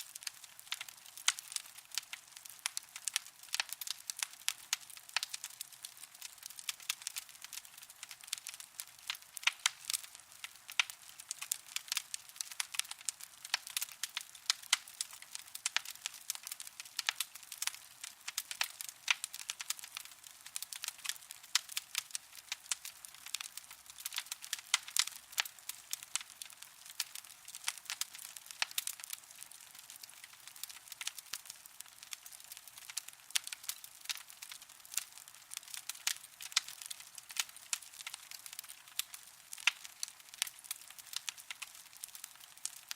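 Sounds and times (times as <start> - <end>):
coals crackling: 0.0 - 42.9.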